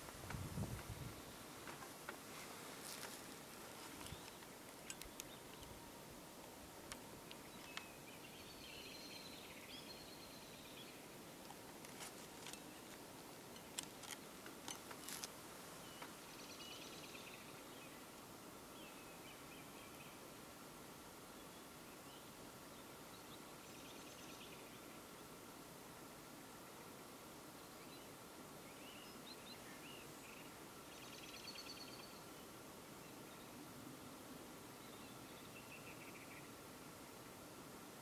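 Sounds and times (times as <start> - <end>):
songbird singing faintly: 0.0 - 38.0
steady hiss: 0.0 - 38.0.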